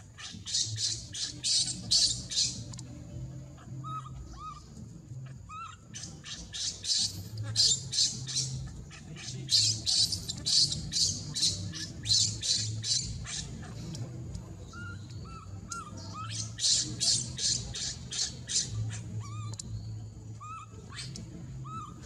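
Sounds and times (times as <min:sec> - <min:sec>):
baby monkey screaming: 0:00.0 - 0:02.9, 0:03.6 - 0:19.8, 0:20.4 - 0:22.0.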